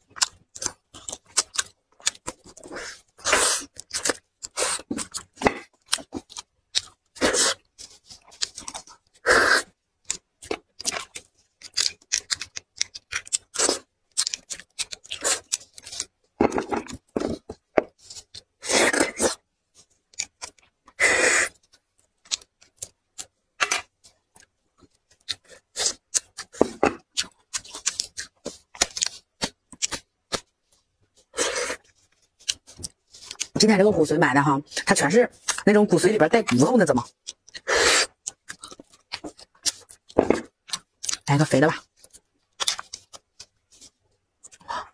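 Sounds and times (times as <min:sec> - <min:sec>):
sucking marrow from bones: 0:00.0 - 0:44.9
wet chewing and smacking: 0:00.0 - 0:44.9.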